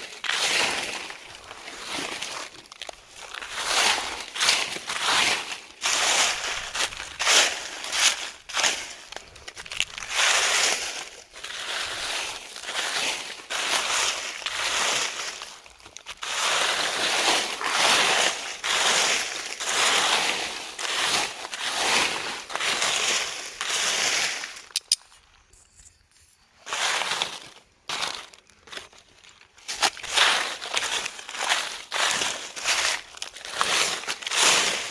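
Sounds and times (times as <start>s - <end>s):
rustles and crackles: 0.0s - 34.9s.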